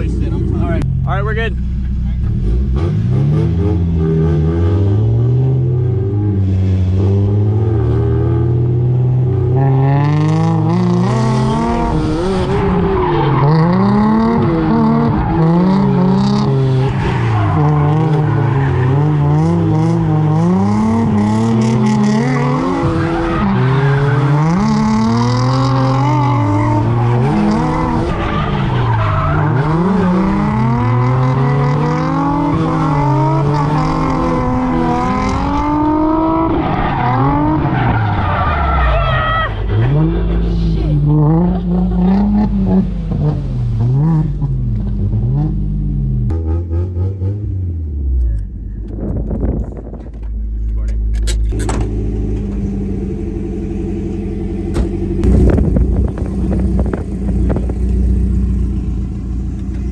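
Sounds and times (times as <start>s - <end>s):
tyres skidding and squealing: 0.0s - 47.3s, 49.8s - 59.9s
car engine revving: 0.0s - 59.9s.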